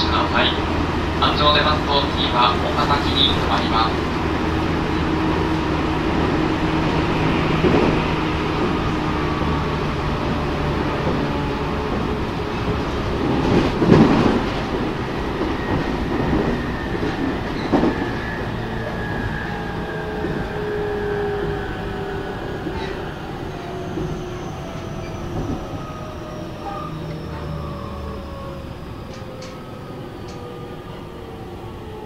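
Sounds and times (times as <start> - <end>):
wheel and rail rumble: 0.0 - 32.0
train motor whine: 0.4 - 30.9.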